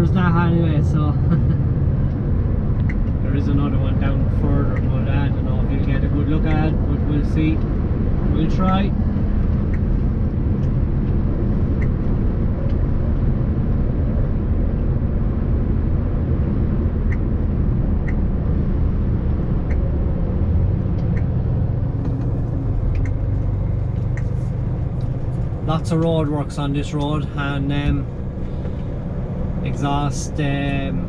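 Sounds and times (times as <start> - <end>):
lorry engine and road rumble: 0.0 - 31.0.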